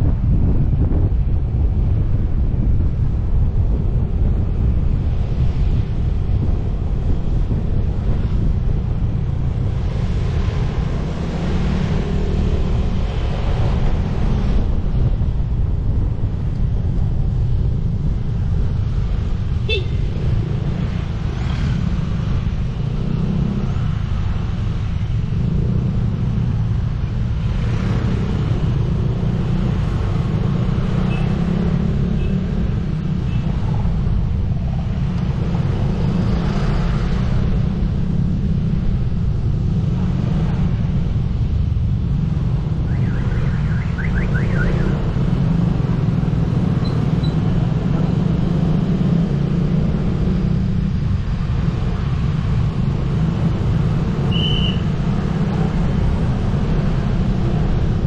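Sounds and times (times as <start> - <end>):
road traffic: 0.0 - 58.0
wind on microphone: 0.0 - 58.0.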